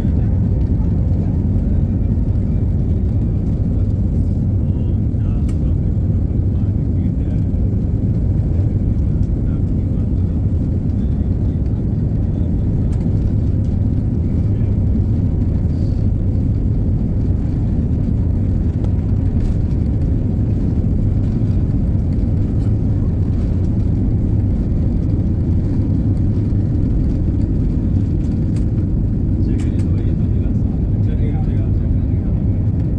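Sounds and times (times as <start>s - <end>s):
airplane drone: 0.0s - 32.9s.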